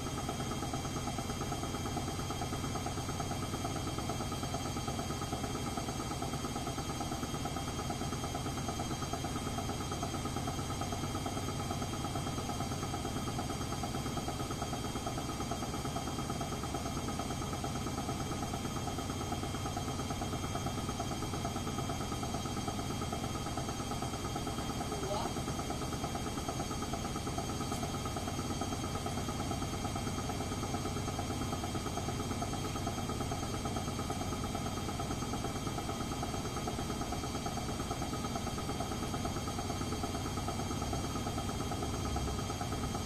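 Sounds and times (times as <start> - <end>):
washing machine spinning: 0.0 - 43.0.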